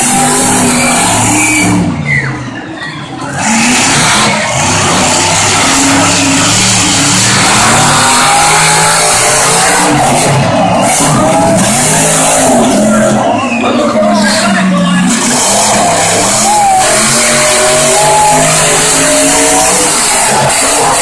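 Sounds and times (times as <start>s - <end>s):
truck engines revving hard: 0.0s - 21.0s.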